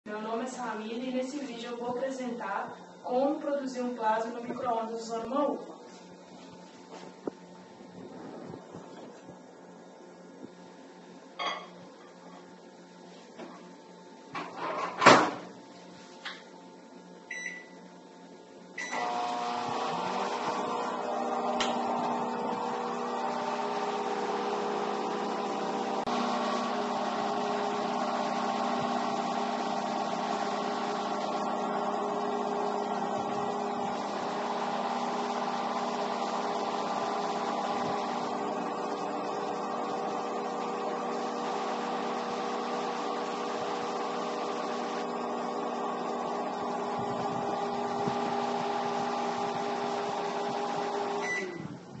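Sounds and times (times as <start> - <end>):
microwave oven humming: 0.1 - 52.0.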